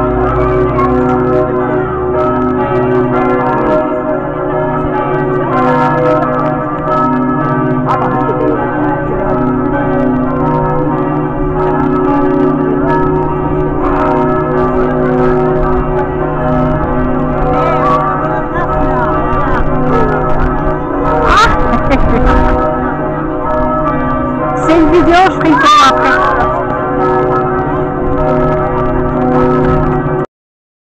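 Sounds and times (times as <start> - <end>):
church bells ringing in a peal: 0.0 - 30.3.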